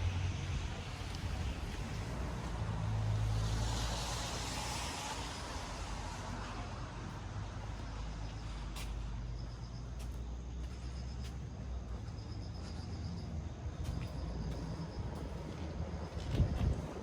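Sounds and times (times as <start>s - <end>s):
crickets chirping: 0.0s - 17.0s
vehicle engine humming: 0.0s - 17.0s.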